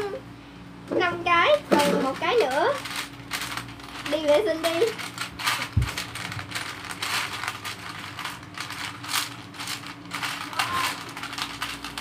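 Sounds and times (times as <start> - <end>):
plastic pieces clicking and rattling: 1.8 - 12.0.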